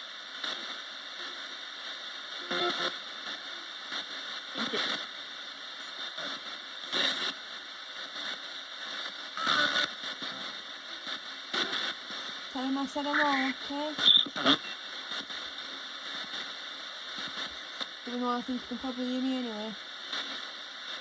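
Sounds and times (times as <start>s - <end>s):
radio static hiss: 0.0s - 21.0s
snatches of radio broadcast: 0.0s - 21.0s.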